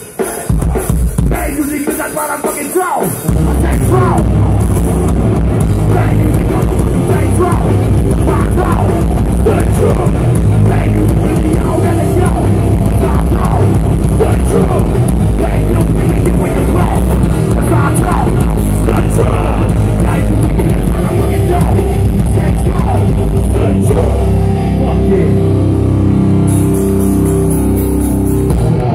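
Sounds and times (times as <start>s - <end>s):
drum kit: 0.0s - 28.9s
electric guitars: 0.0s - 28.9s
bass guitar: 3.1s - 28.9s.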